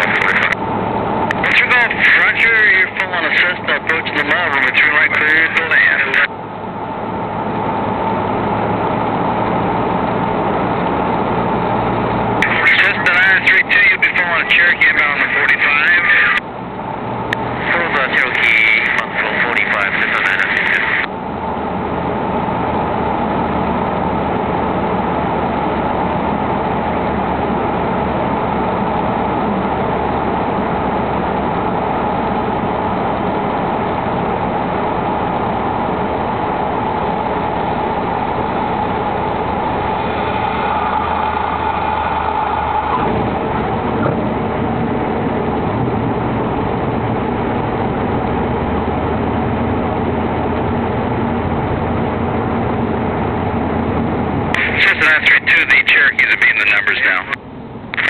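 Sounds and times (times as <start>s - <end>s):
light aircraft engine and propeller droning: 0.0s - 58.0s.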